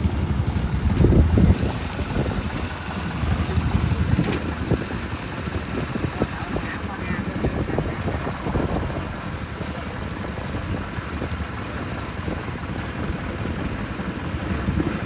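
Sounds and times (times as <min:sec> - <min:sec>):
farm machinery engine running: 0:00.0 - 0:15.0
wind buffeting microphone: 0:00.0 - 0:15.0.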